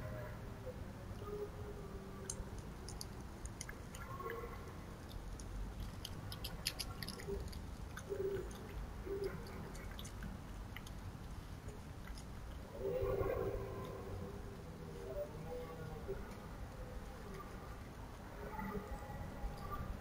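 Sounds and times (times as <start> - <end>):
fox chewing and crunching food: 2.2 - 20.0.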